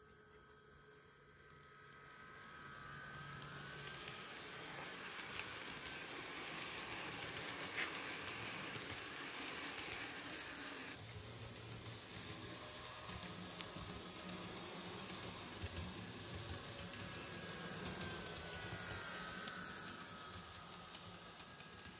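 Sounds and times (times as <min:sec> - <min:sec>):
model train running on track: 0:00.0 - 0:21.9.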